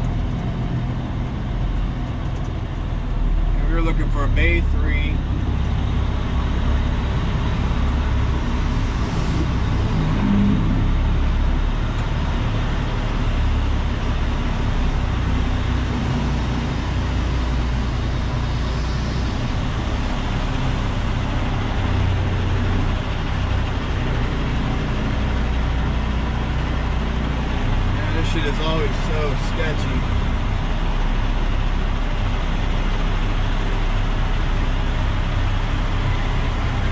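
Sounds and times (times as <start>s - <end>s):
road noise: 0.0s - 36.9s
truck diesel engine drone: 0.0s - 36.9s.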